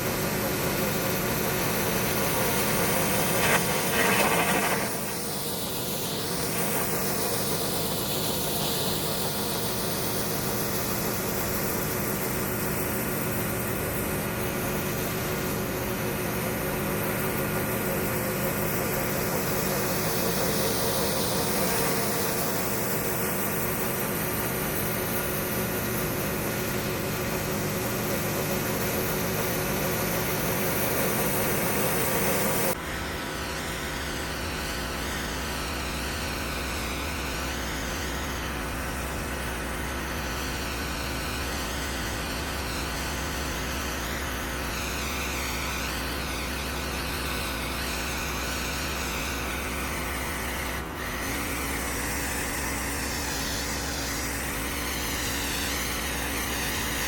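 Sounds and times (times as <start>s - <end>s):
pressure washer spraying concrete: 0.0s - 57.0s.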